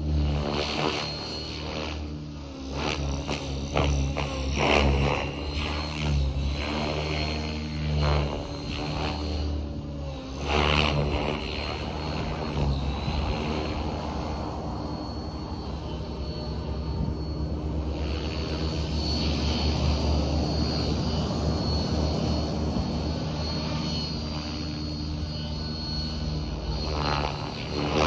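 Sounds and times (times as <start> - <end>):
rc helicopter motor whine: 0.0 - 28.0
rotor blades humming: 0.0 - 28.0.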